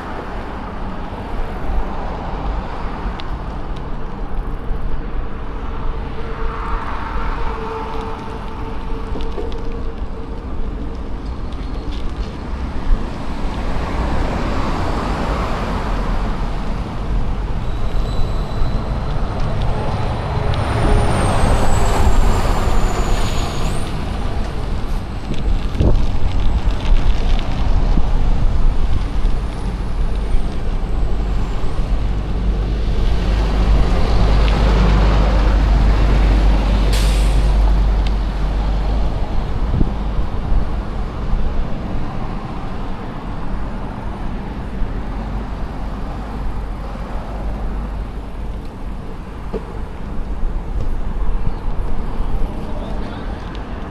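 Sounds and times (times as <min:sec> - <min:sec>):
road traffic passing: 0:00.0 - 0:53.9
wind buffeting microphone: 0:00.0 - 0:53.9.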